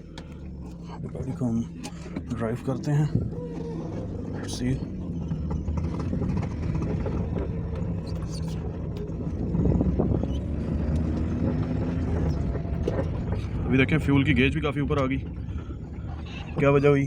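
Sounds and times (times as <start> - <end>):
car engine low hum: 0.0 - 17.0.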